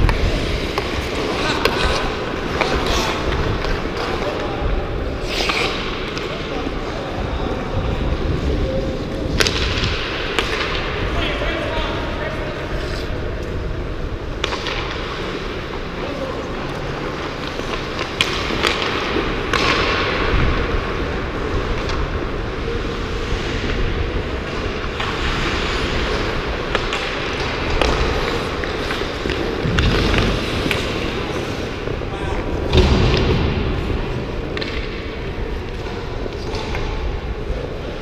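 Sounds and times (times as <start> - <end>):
hockey sticks and puck clacking: 0.0 - 7.6, 8.2 - 38.0
skates scraping on ice: 0.0 - 38.0.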